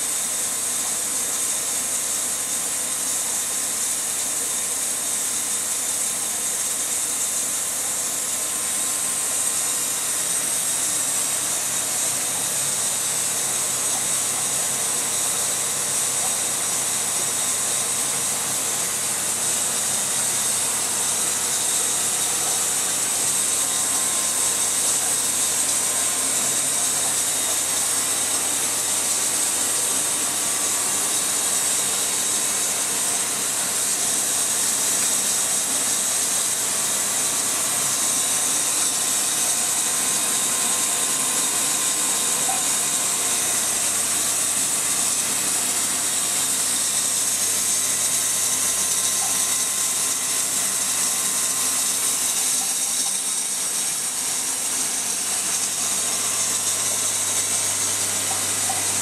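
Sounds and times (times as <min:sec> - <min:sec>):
air pump hum: 0:00.0 - 0:59.0
aquarium aeration hiss: 0:00.0 - 0:59.0.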